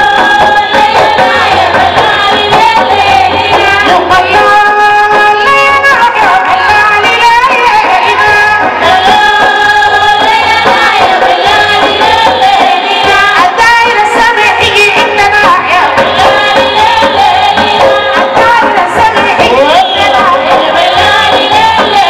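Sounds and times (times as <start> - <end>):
hand drum beating: 0.0 - 22.0
woman singing lead: 0.0 - 22.0
women's chorus singing: 0.0 - 22.0.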